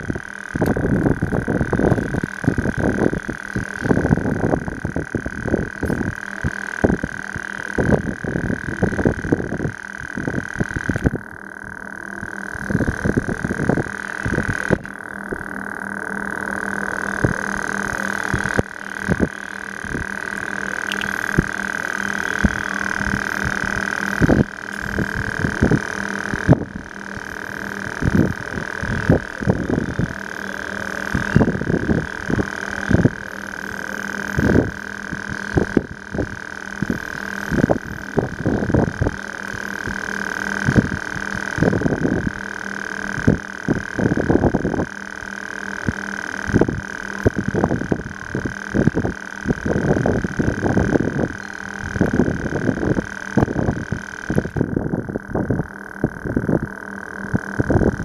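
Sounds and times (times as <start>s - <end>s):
high-pitched hum: 0.0s - 58.0s.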